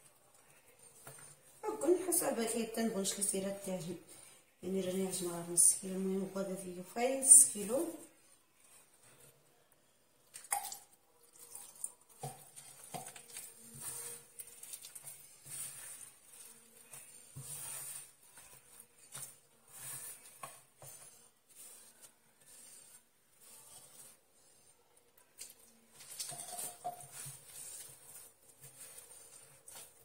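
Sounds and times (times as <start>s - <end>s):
hand kneading dough: 4.6s - 30.0s.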